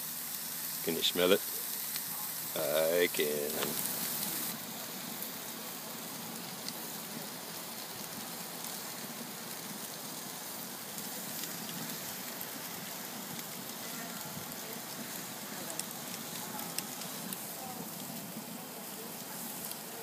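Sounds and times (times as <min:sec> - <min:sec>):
fire crackles: 0:00.0 - 0:20.0
steaks sizzling on grill: 0:00.0 - 0:20.0.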